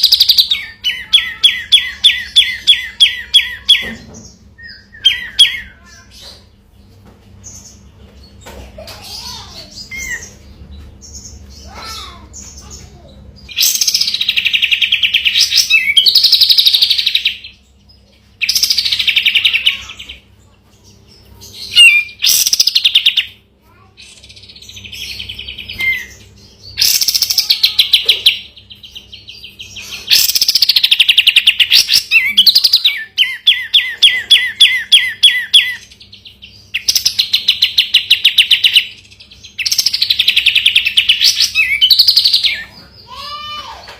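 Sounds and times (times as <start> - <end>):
bird singing trilled song: 0.0 - 8.5, 9.1 - 43.9.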